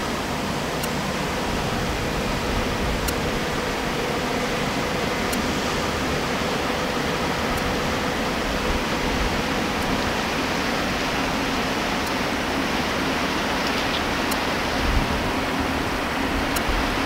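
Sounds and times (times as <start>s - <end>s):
water and ice rushing along hull: 0.0s - 17.0s.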